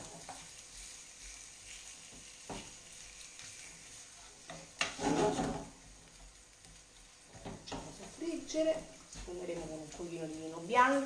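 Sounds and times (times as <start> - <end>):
faint sizzle: 0.0 - 11.0
wooden spoon scraping a pan: 0.0 - 11.0.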